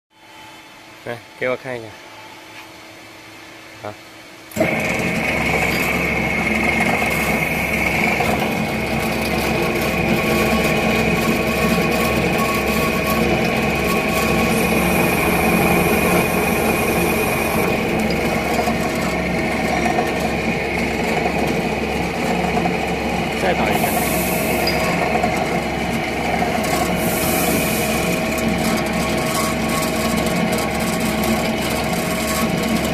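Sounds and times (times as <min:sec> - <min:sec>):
machine cutter whine and hum: 0:00.2 - 0:32.9.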